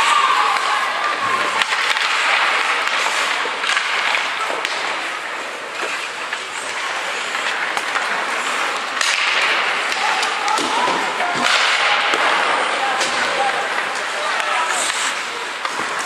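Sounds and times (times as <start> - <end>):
hockey sticks clacking: 0.0 - 16.0
skate blades scraping ice: 0.0 - 16.0.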